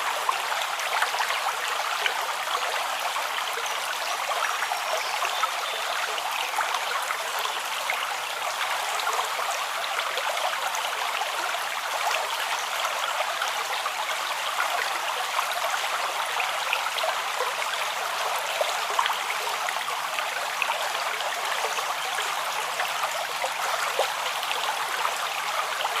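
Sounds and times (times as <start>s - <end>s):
creek babbling over stones: 0.0s - 26.0s.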